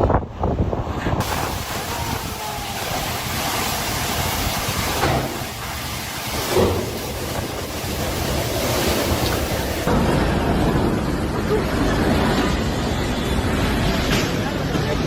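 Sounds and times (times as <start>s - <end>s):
storm wind: 0.0s - 15.0s
rain: 1.2s - 15.0s.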